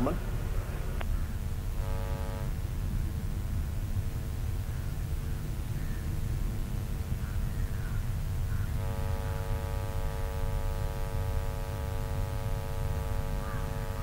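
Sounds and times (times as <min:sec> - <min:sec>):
electrical hum: 0:00.0 - 0:14.0
low rumble of line noise: 0:00.0 - 0:14.0.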